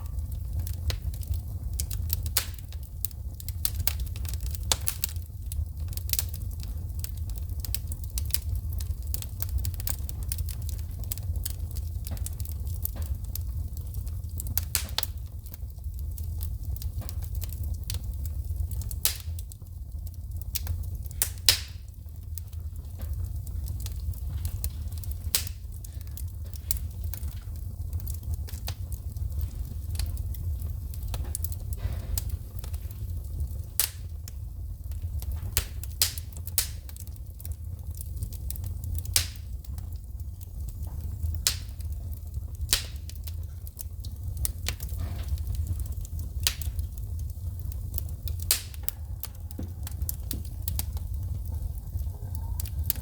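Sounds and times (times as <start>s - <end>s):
fire pops and crackles: 0.0s - 53.0s
low rumble of flames: 0.0s - 53.0s.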